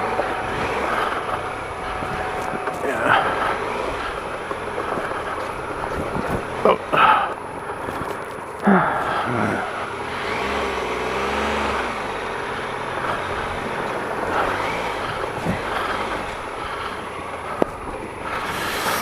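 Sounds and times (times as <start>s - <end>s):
motorcycle engine at low revs: 0.0s - 19.0s
rushing noise through mud: 0.0s - 19.0s.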